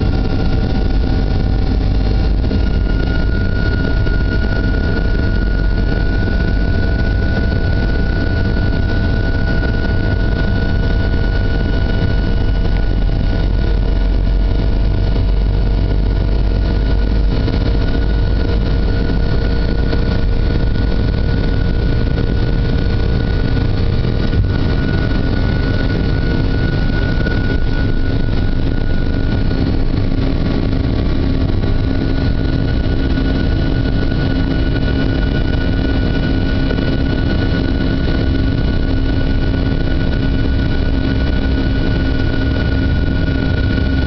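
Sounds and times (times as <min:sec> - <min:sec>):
high engine whine: 0:00.0 - 0:44.0
jet engines deep rumble: 0:00.0 - 0:44.0.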